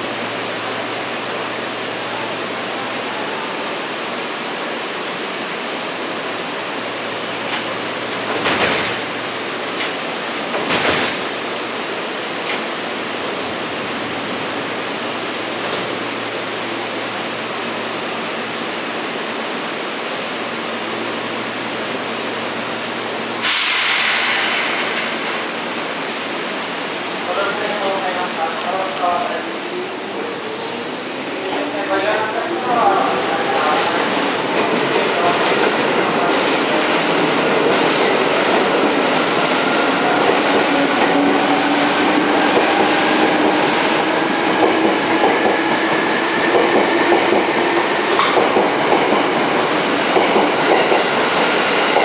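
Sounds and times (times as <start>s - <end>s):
electric train rushing noise: 0.0s - 52.0s.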